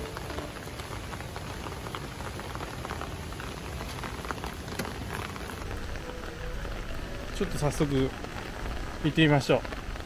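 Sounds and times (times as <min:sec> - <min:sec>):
raindrops ticking: 0:00.0 - 0:10.0
steady rain falling: 0:00.0 - 0:10.0.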